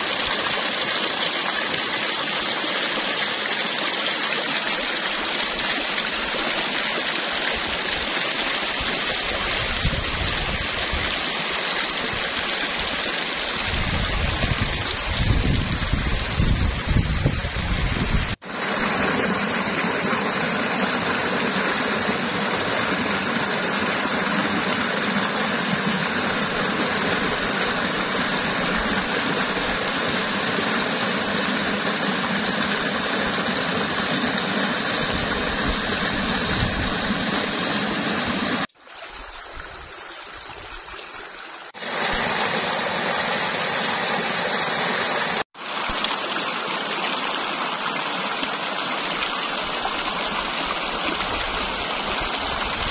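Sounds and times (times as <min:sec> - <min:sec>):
stream rushing over boulders: 0:00.0 - 0:52.9.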